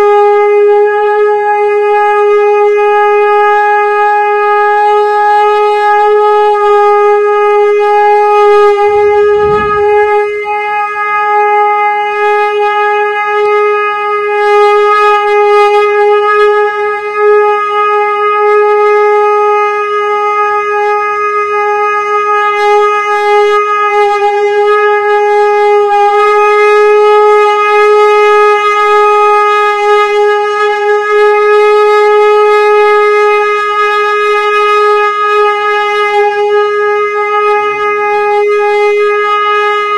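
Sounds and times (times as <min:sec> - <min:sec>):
conch shell blown: 0:00.0 - 0:39.9.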